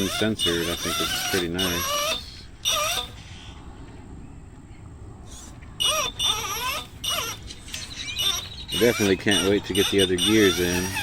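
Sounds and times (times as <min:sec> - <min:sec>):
drivetrain noise: 0:00.0 - 0:11.0.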